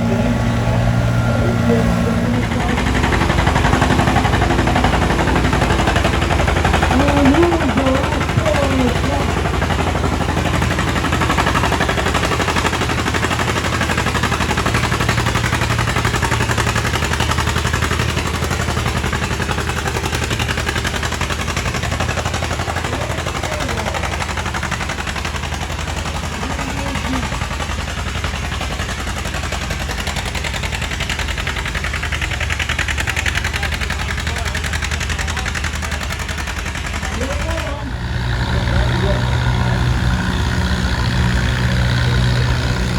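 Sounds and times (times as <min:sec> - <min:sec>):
tractor engine running hard: 0:00.0 - 0:42.9.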